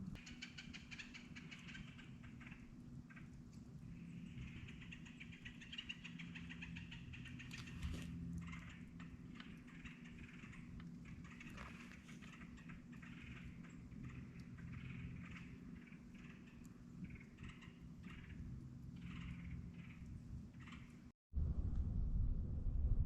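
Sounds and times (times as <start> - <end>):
animal clicking trills: 0.0 - 21.0
low steady hum: 0.0 - 23.0.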